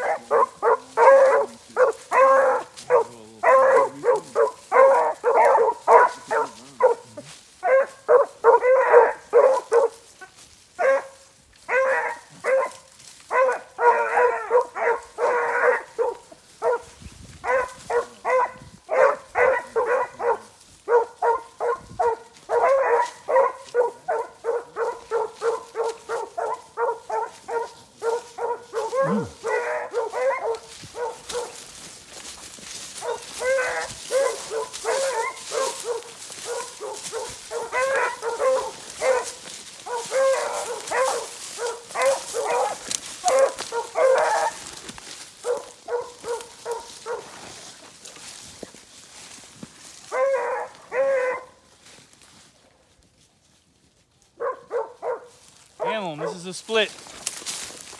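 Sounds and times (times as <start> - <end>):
hounds barking: 0.0 - 52.1, 54.3 - 57.9.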